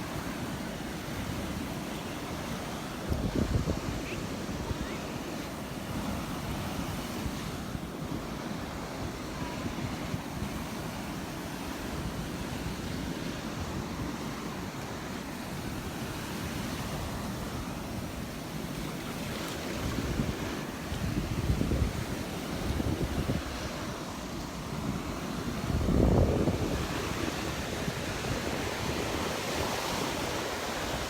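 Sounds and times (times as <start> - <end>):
surf breaking on sand: 0.0 - 31.0
wind buffeting microphone: 0.1 - 18.7, 19.6 - 31.0.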